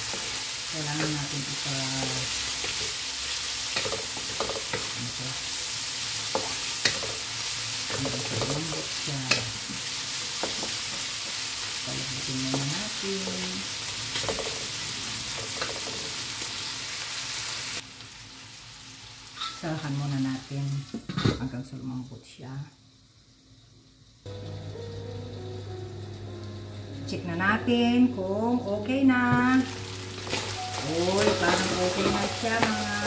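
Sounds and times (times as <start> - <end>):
meat sizzling in oil: 0.0 - 20.8, 22.9 - 27.6, 29.0 - 33.0.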